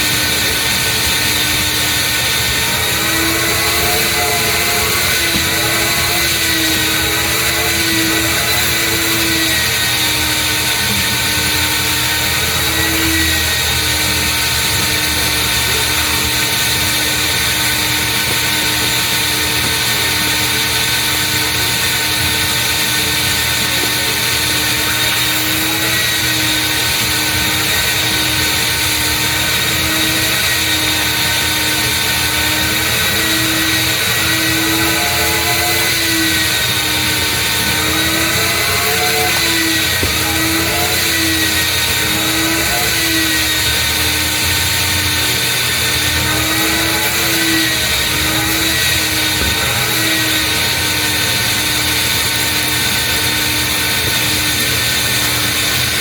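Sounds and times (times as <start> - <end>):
vacuum hose sucking: 0.0 - 56.0
vacuum motor whining: 0.0 - 56.0.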